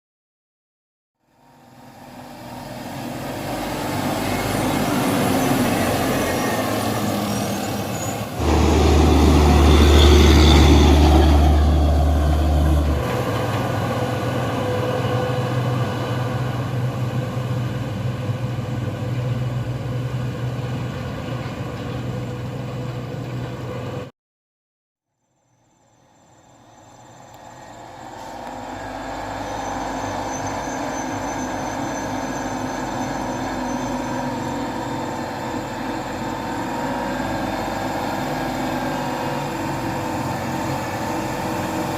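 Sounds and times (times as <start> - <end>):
diesel truck engine pulling hard: 1.4 - 24.1, 26.4 - 41.9.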